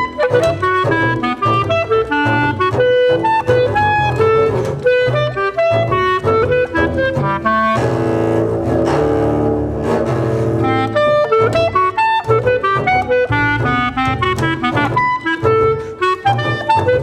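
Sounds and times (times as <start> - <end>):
chamber music clarinets and double bass: 0.0 - 17.0.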